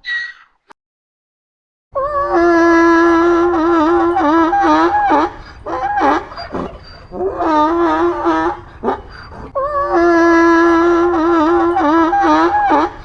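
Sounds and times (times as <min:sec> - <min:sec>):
donkey braying: 0:00.0 - 0:00.6, 0:02.0 - 0:13.0.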